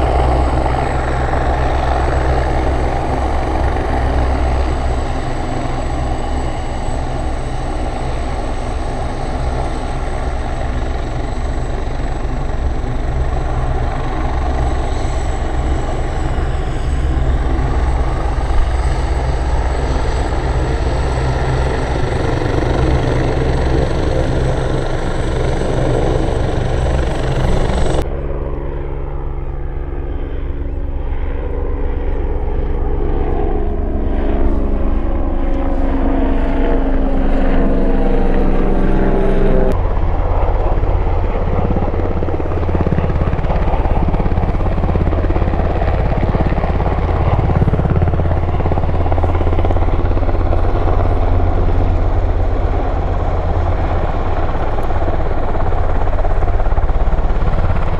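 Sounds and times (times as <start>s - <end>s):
aircraft engine: 0.0s - 57.9s
helicopter rotors and turbine: 0.0s - 57.9s.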